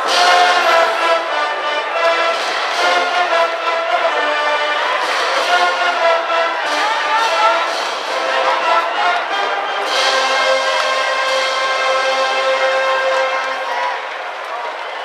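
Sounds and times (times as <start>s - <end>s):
brass band playing: 0.0s - 14.4s.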